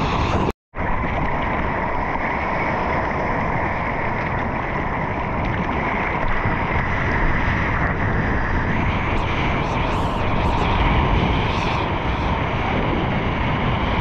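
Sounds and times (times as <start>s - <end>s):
sea water rushing: 0.0s - 14.0s
wind buffeting: 0.0s - 14.0s.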